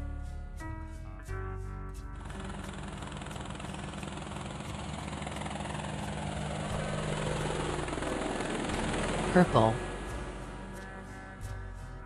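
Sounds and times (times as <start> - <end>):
helicopter rotor and engine: 2.2 - 11.9.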